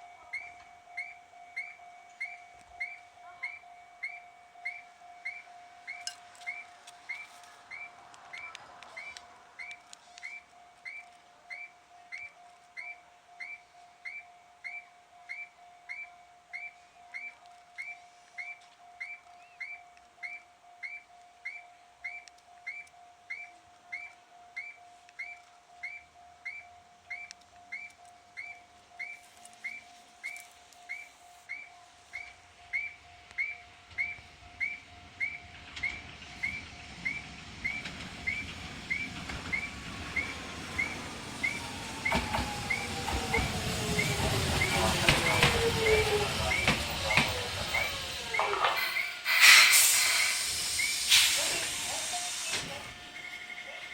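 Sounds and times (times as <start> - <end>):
train rumble: 0.0 - 53.9
electronic warning chirps: 0.2 - 49.4.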